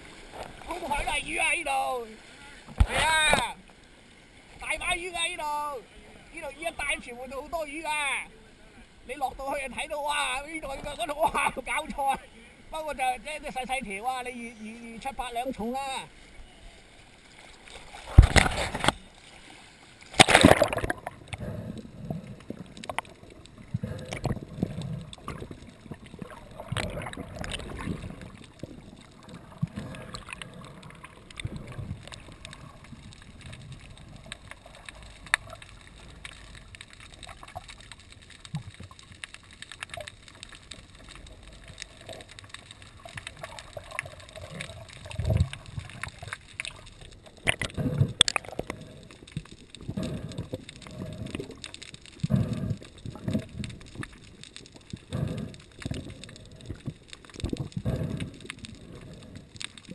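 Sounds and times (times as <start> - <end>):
water splashing: 0.0 - 8.3, 12.9 - 59.9
water sloshing and bubbling: 0.0 - 59.9.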